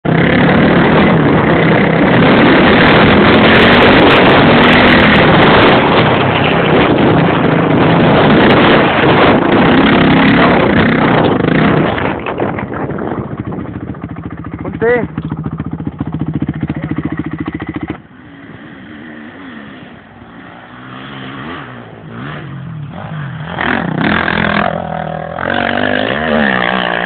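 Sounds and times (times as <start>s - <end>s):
motocross bike engine revving: 0.1s - 27.0s.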